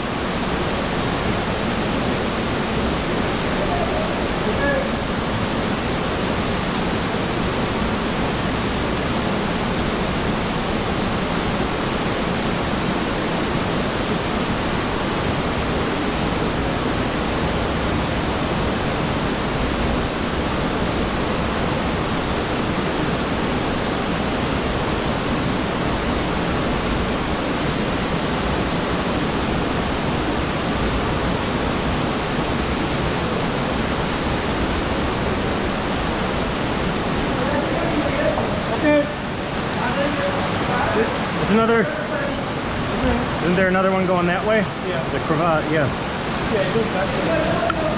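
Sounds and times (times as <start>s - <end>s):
running water rushing: 0.0s - 47.9s.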